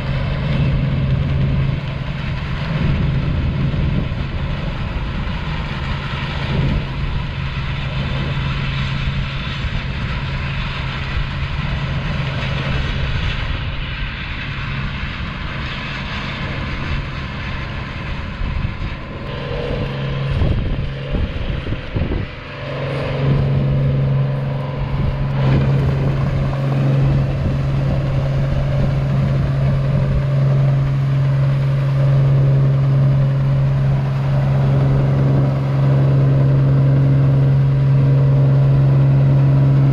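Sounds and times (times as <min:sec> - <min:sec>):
combine harvester hum: 0:00.0 - 0:39.9.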